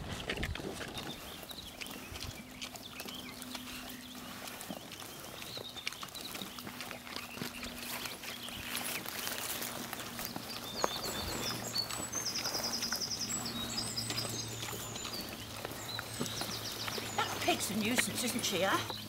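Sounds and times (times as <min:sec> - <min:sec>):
small birds singing: 0:00.0 - 0:19.0.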